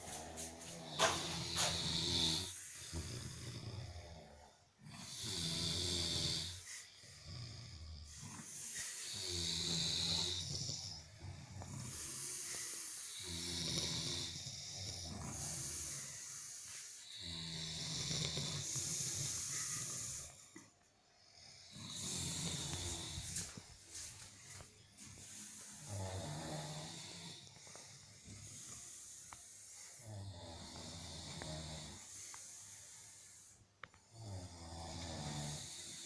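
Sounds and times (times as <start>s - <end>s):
low rattling snore: 0.0s - 36.0s.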